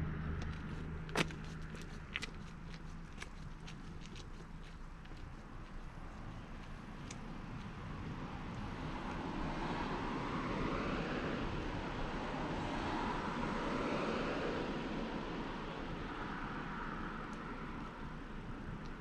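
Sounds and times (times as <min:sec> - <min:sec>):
distant vehicle passing: 0:00.0 - 0:19.0.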